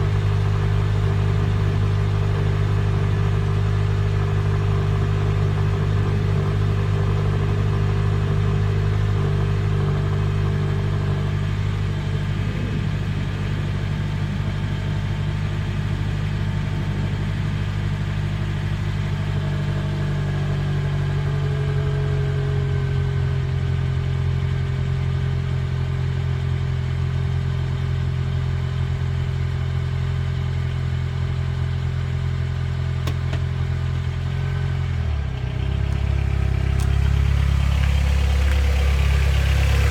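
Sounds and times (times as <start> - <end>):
car exhaust idling: 0.0 - 39.9.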